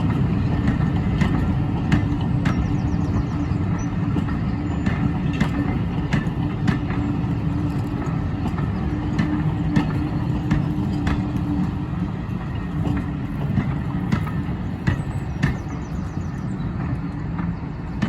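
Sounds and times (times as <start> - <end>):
sharp clicks and knocks: 0.0 - 18.0
train rumbling: 0.0 - 18.0.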